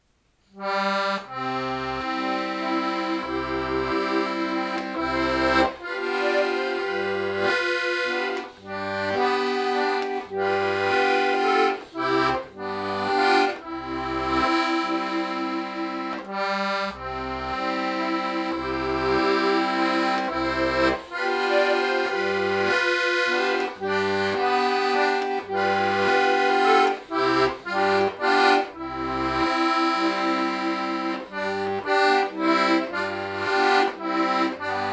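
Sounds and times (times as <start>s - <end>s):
accordion playing slow folk melody: 0.4s - 34.9s.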